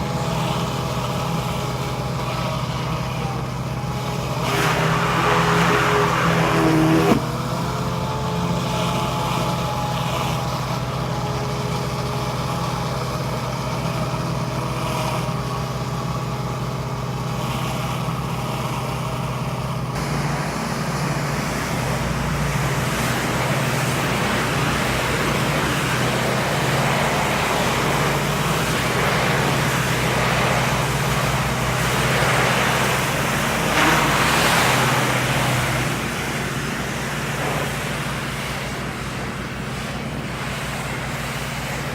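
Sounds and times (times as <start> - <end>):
pressure washer running: 0.0 - 41.9.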